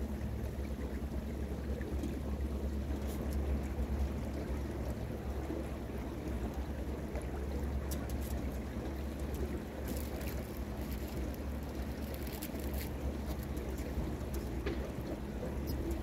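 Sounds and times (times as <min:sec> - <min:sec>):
boat engine drone: 0:00.0 - 0:16.0
water splashing against hull: 0:00.0 - 0:16.0.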